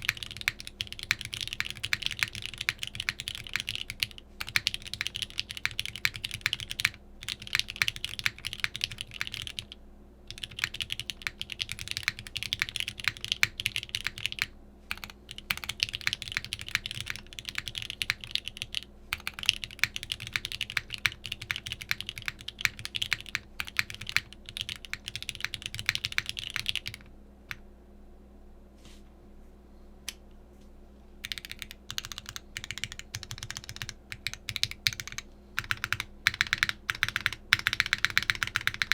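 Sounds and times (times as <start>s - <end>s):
mechanical keyboard typing: 0.0s - 27.6s, 31.2s - 38.9s.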